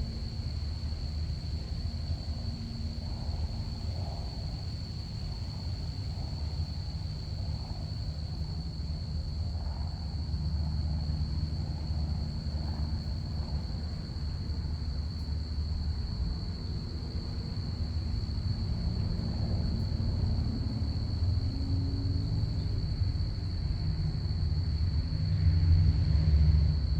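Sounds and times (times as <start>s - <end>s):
crickets chirping: 0.0s - 26.9s
distant airplane rumble: 0.0s - 26.9s.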